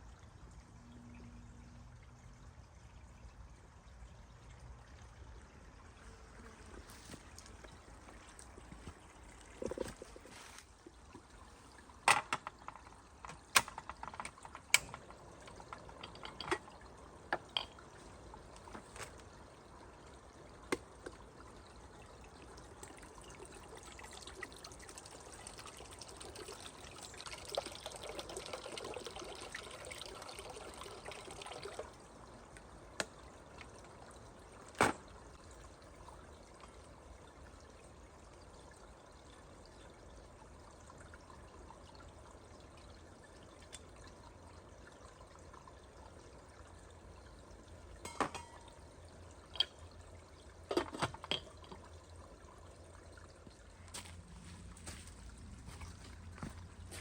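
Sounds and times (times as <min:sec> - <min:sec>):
water pouring and trickling: 0:00.0 - 0:57.0.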